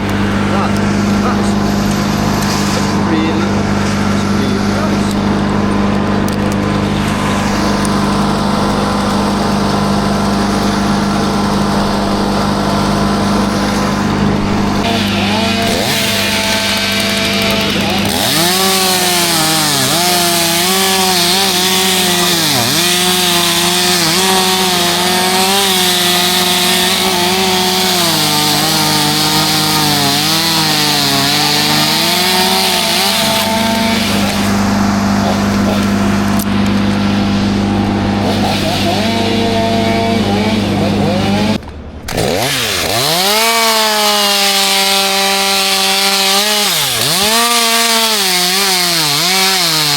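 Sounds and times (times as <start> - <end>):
chainsaw cutting wood: 0.0 - 49.9
engine drone: 0.0 - 49.9.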